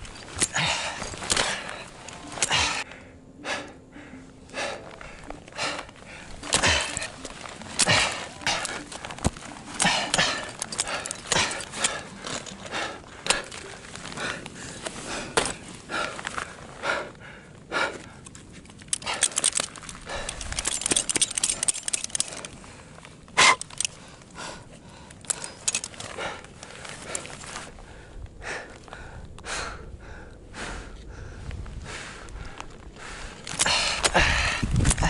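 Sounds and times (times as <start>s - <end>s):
climbing gear clinking: 0.0s - 35.0s
hard panting breaths: 0.0s - 35.0s.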